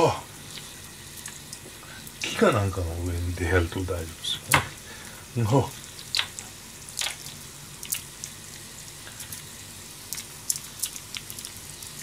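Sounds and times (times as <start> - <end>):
steady low hum: 0.0 - 12.0
oil crackling and popping: 0.3 - 2.5, 4.4 - 12.0.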